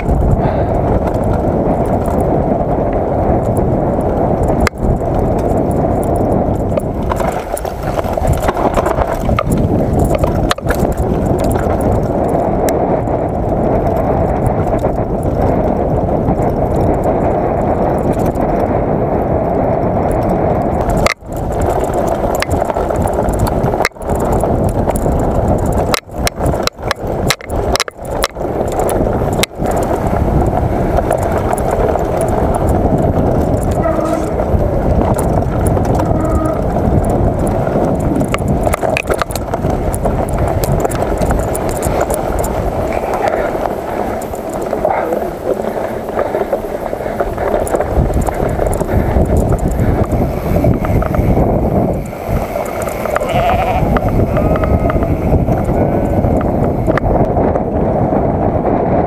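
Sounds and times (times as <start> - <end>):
bike frame rattle: 0.0 - 57.7
bike tyres rumbling on dirt: 0.0 - 59.0
wind on microphone: 0.0 - 59.0.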